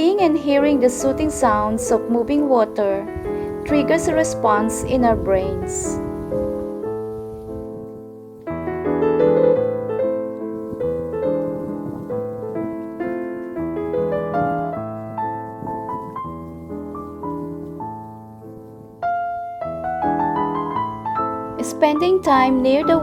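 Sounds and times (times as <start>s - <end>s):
gentle solo piano piece: 0.0s - 23.0s.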